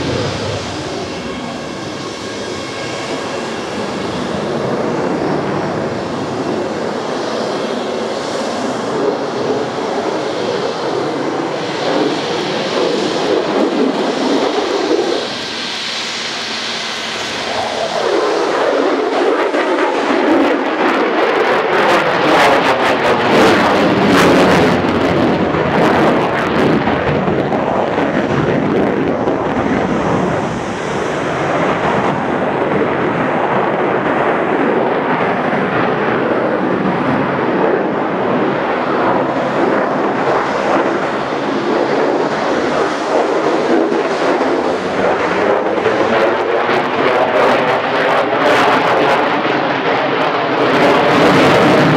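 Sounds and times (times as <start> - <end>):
fighter jet roar: 0.0 - 51.9.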